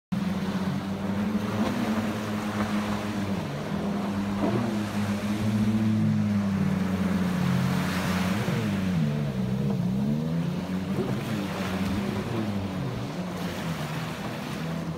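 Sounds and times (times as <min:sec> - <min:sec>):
jet ski engines running: 0:00.1 - 0:14.9.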